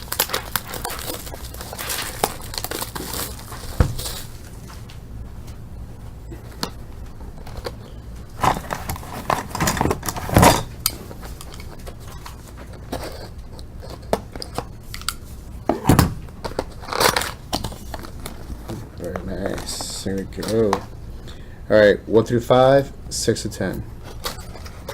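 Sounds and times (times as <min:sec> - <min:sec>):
cardboard and wrapper rustling: 0:00.0 - 0:21.0.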